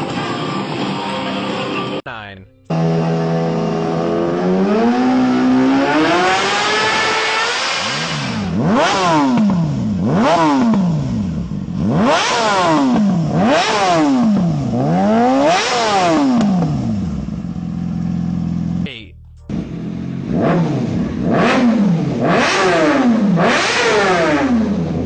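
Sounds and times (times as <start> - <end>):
motorcycle engine revving: 2.7 - 25.0.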